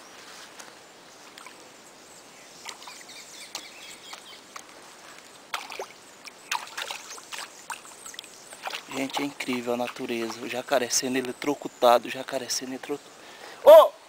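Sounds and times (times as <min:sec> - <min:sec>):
moving water hiss: 0:00.0 - 0:13.8.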